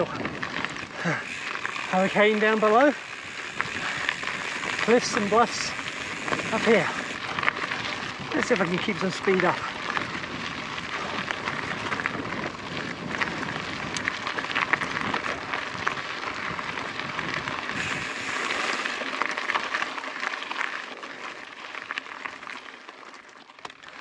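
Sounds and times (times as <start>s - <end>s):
bike tyres crunching on gravel: 0.0s - 24.0s.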